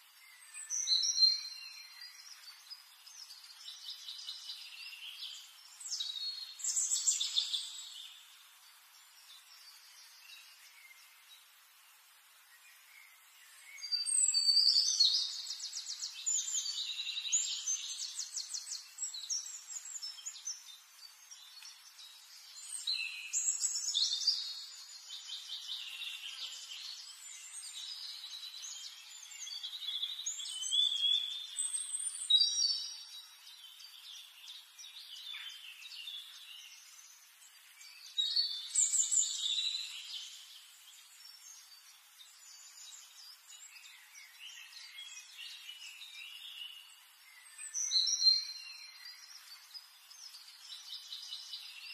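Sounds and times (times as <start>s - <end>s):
faint bird chirps: 0.0s - 51.9s.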